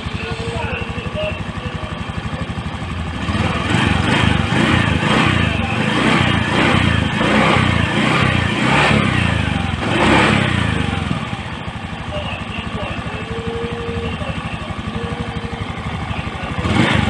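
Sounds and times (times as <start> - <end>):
scooter engine idling and revving: 0.0 - 17.0.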